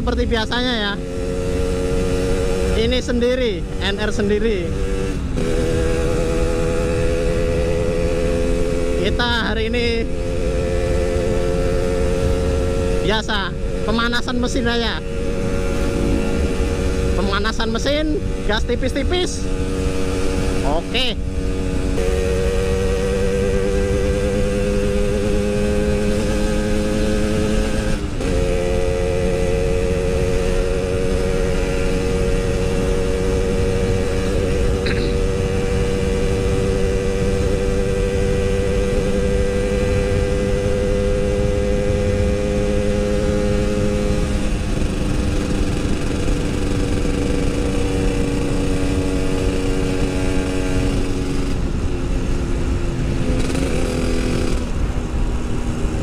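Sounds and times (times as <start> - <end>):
two-stroke motorcycle engine running: 0.0 - 56.0.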